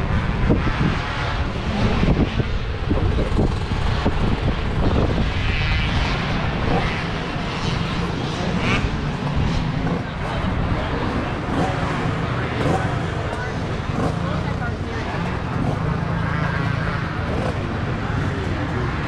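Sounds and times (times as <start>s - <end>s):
motocross bike engines droning: 0.0s - 19.0s.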